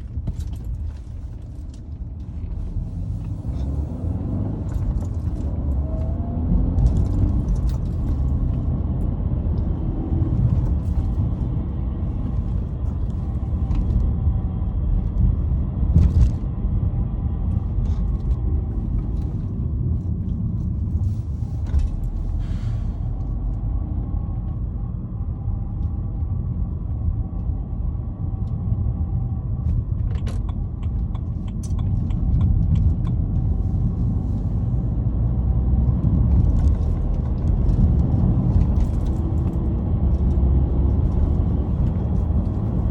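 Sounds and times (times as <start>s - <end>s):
car engine rumbling in gear: 0.0s - 42.9s.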